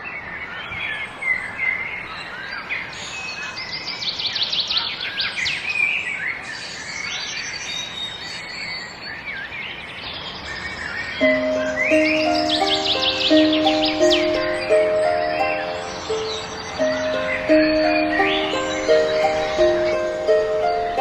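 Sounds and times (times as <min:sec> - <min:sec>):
nature ambience hiss: 0:00.0 - 0:21.0
songbirds singing: 0:00.0 - 0:21.0.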